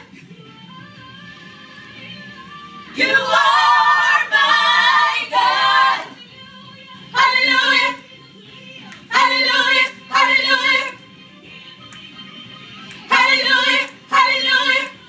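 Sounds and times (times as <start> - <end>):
voices singing gospel song: 0.0 - 15.0.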